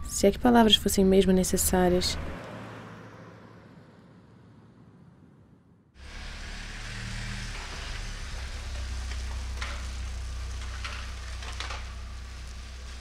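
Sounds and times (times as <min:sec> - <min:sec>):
car driving past: 0:01.9 - 0:13.0.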